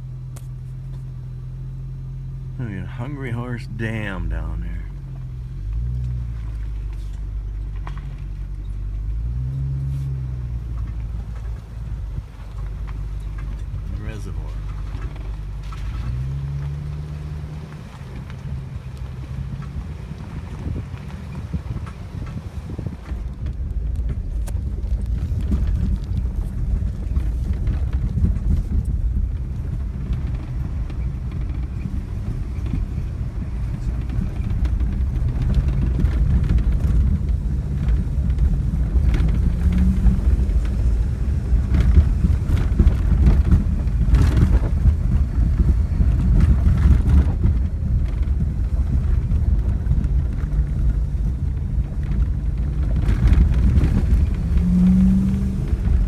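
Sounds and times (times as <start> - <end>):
engine and tyre rumble: 0.0 - 56.0
knocks and rattles from bumps: 10.4 - 56.0.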